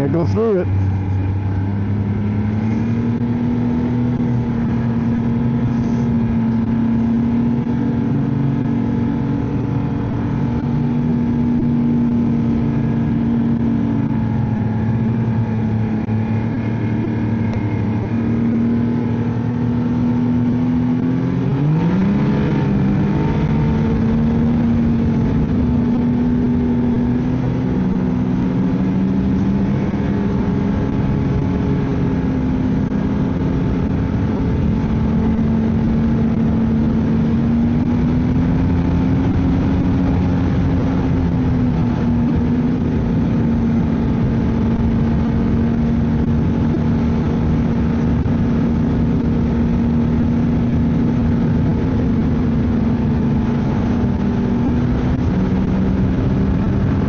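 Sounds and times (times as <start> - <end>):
snowmobile engine running: 0.0 - 57.0.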